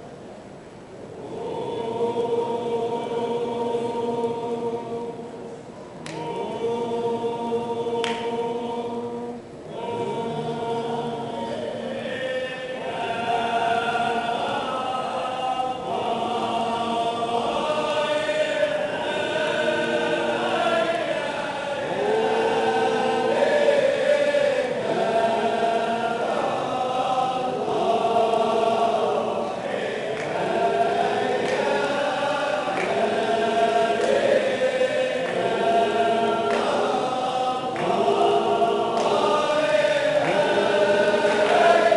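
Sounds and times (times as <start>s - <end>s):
men chanting together: 1.2s - 5.4s, 6.1s - 41.9s.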